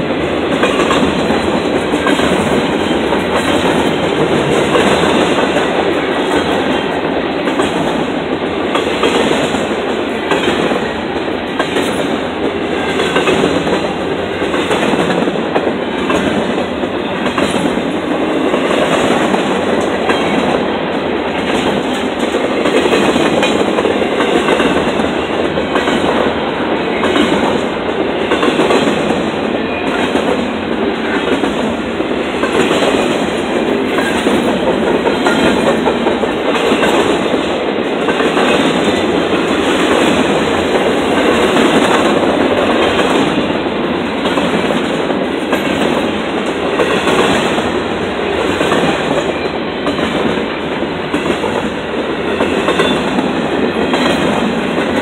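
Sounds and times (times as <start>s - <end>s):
freight train wheels clacking on rail: 0.0s - 55.0s.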